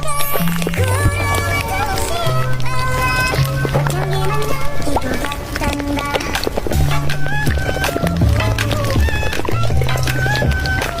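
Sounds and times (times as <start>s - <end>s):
background pop music: 0.0s - 11.0s.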